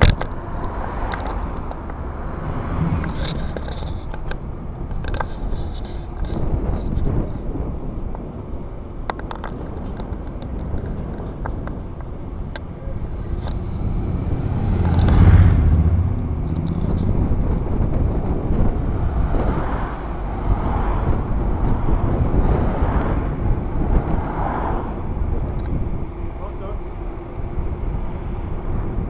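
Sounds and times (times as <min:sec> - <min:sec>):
bicycle tyres rolling: 0:00.0 - 0:29.0
wind rushing over microphone: 0:00.0 - 0:29.0.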